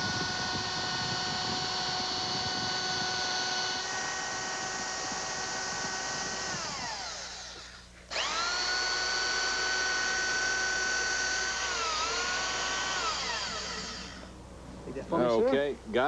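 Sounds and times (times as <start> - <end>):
dispensing gun motor whine: 0.0 - 16.0.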